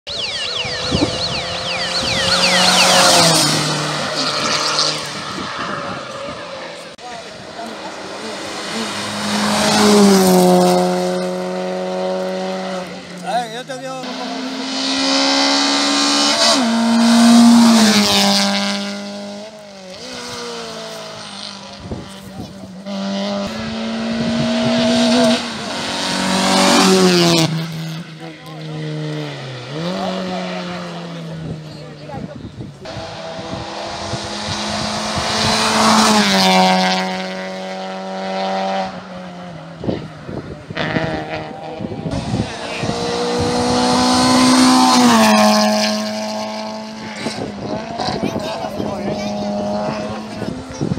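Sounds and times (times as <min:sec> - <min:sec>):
rally car engine passing: 0:00.2 - 0:50.9.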